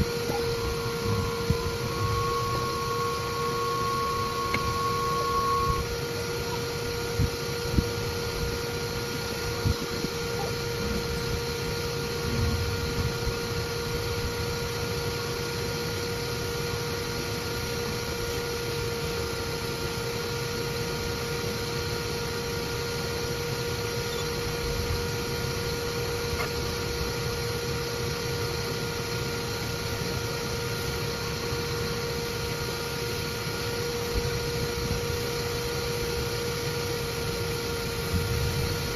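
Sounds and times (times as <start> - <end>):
bee vacuum whining: 0.0 - 38.9.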